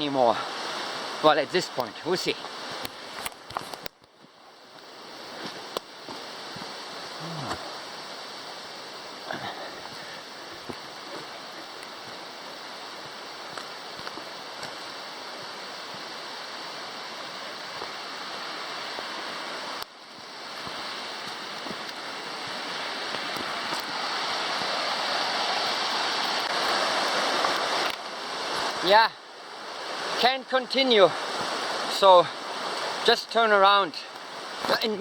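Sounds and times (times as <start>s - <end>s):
mountain creek rushing: 0.0s - 35.0s.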